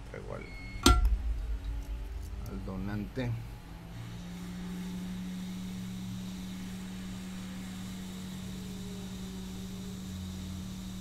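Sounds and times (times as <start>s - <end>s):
electric blower motor humming: 0.8s - 11.0s.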